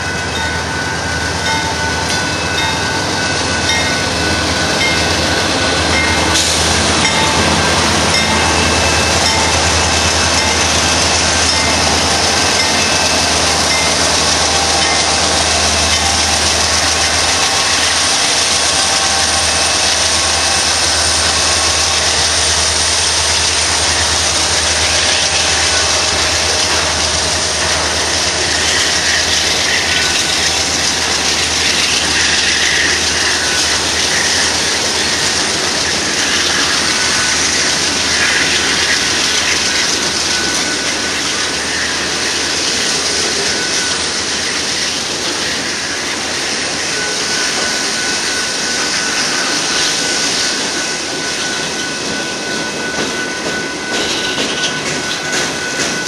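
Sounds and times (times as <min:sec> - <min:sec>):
freight train wheels on rail: 0:00.0 - 0:56.0.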